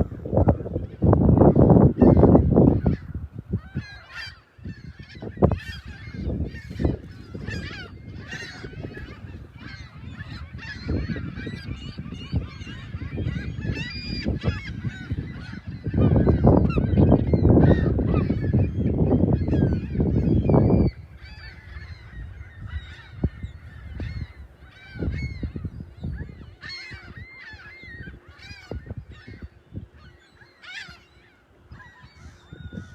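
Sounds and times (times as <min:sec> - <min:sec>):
seagulls squawking: 0:00.0 - 0:32.9.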